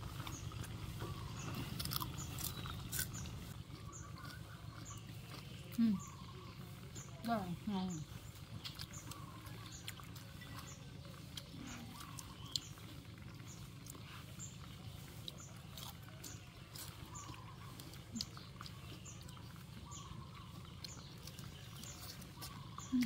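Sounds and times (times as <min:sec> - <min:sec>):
low steady hum: 0:00.0 - 0:23.0
small animal chirping: 0:00.2 - 0:23.0.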